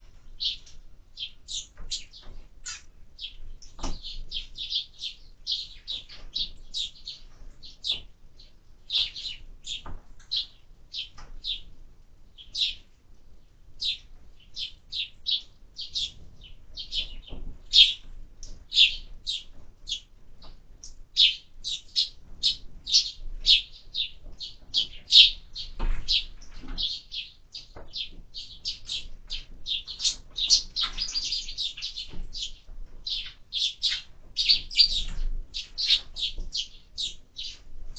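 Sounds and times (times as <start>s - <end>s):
sparrows chirping: 0.0s - 11.7s, 12.3s - 37.9s.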